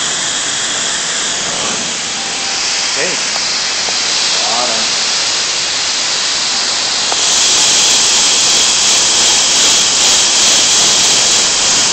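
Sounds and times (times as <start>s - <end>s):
blow dryer rushing air: 0.0s - 11.9s.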